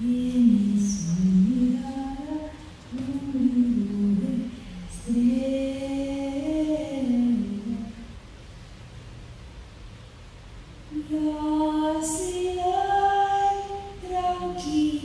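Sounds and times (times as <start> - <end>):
person singing unaccompanied: 0.0 - 8.0, 10.9 - 15.0.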